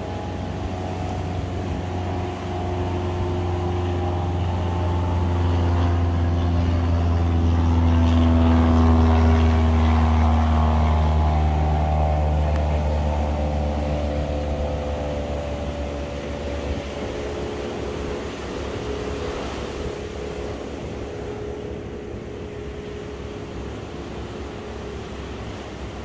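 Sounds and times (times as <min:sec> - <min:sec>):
passing engine drone: 0:00.0 - 0:26.0
surf washing: 0:00.0 - 0:26.0.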